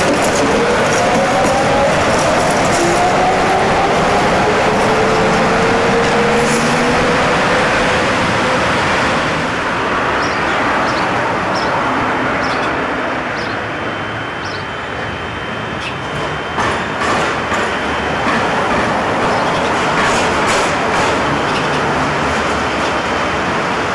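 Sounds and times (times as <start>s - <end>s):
tram motors whining: 0.0s - 23.9s.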